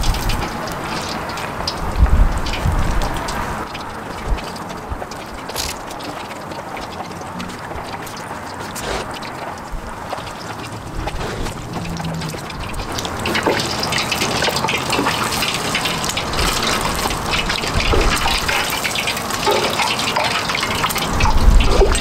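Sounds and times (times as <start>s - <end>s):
oil sizzling and crackling: 0.0s - 22.0s.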